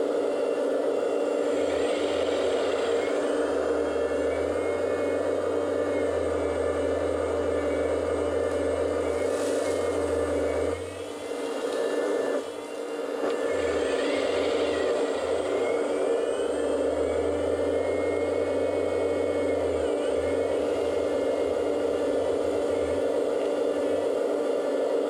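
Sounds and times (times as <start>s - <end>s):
hydraulic pump whirring: 0.0s - 25.0s.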